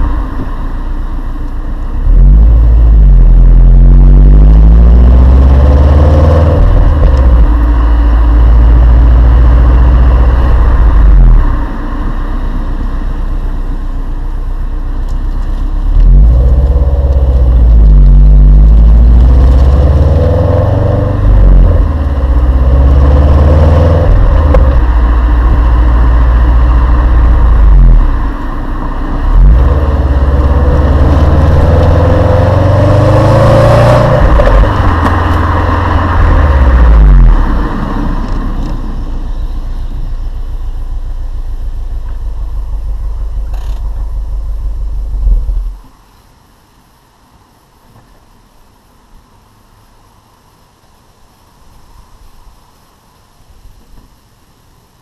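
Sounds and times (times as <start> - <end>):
car exhaust revving: 0.0 - 45.8.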